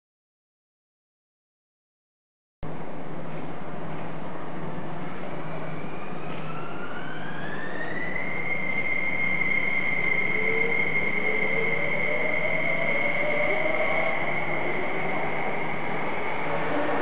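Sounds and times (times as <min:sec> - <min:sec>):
electric train inverter whine: 0:02.7 - 0:17.0.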